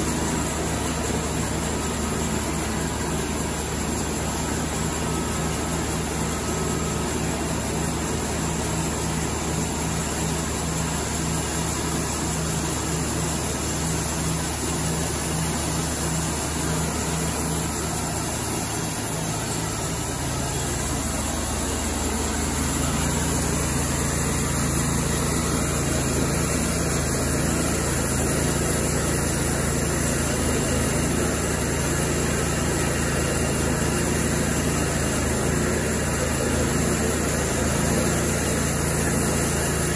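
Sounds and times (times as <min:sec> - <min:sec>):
bandsaw mill sawing a log: 0:00.0 - 0:39.9.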